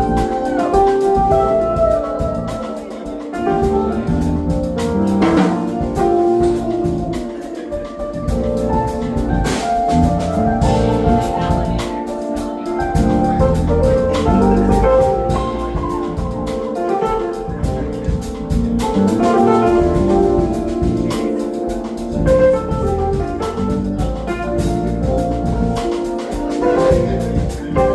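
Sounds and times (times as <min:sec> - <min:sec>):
drum kit playing: 0:00.0 - 0:27.9
pitched instruments playing melodies: 0:00.0 - 0:27.9.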